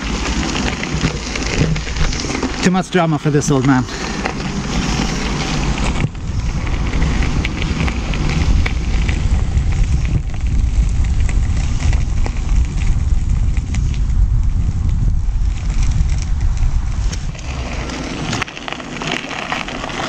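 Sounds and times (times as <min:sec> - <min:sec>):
tyre rolling over gravel: 0:00.0 - 0:20.0
wind buffeting microphone: 0:00.0 - 0:20.0.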